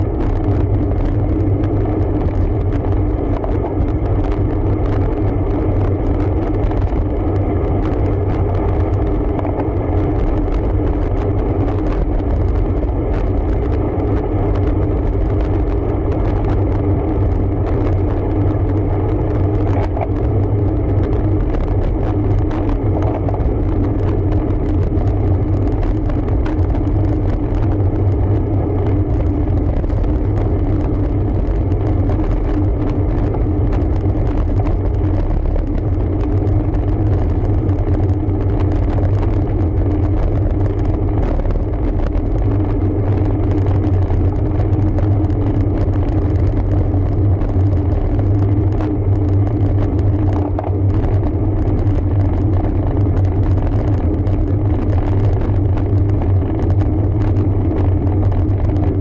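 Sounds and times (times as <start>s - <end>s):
road noise: 0.0s - 59.0s
wind on microphone: 0.0s - 59.0s.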